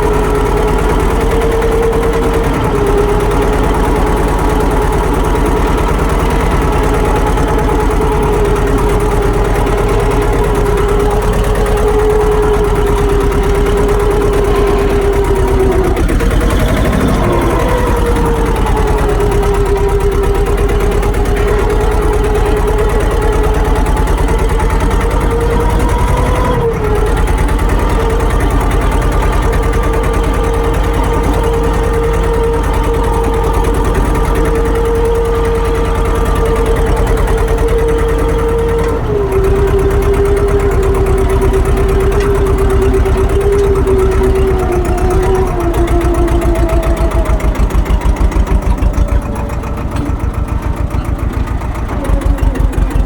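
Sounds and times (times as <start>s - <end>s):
whining motor running: 0.0s - 53.0s.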